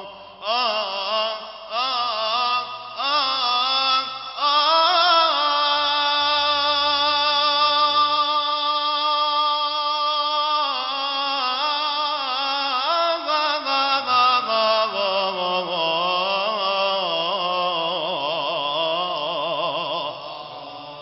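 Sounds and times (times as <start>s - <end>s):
men chanting devotional song: 0.0s - 21.0s.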